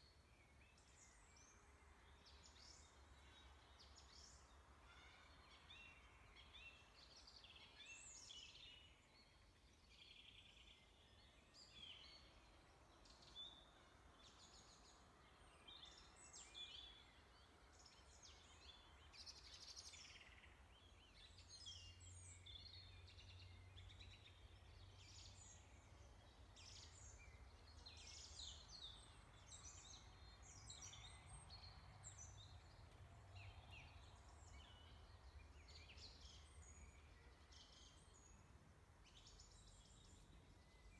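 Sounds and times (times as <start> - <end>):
faint birds chirping: 0.0 - 40.9.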